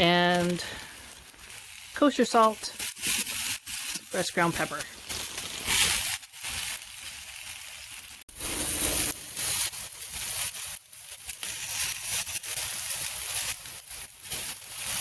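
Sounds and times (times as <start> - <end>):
beans sizzling on a grill: 0.0 - 15.0.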